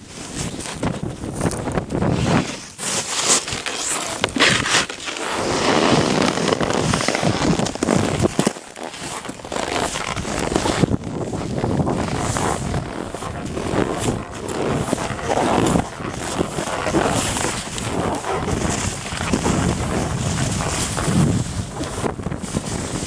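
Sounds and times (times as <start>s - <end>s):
crackling on microphone: 0.0s - 23.0s
sliding down snow: 0.0s - 23.0s.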